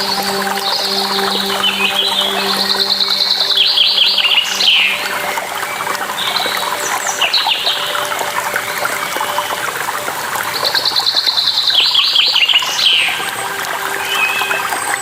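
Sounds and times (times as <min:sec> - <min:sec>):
falling water rushing: 0:00.0 - 0:15.0
songbirds singing: 0:00.0 - 0:15.0.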